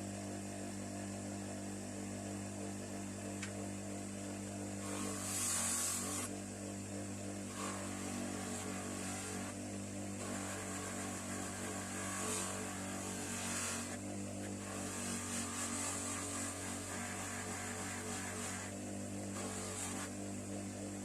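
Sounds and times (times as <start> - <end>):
bench grinder motor humming: 1.0 - 21.0.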